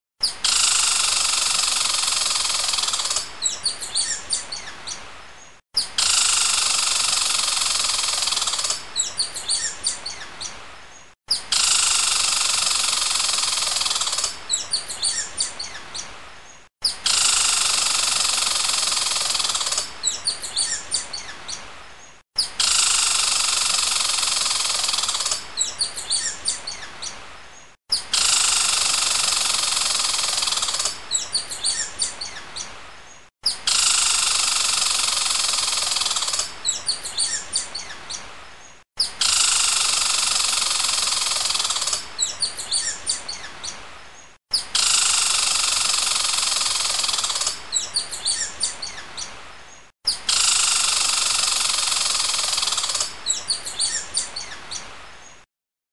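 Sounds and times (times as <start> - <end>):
bird chirping: 1.8 - 55.4.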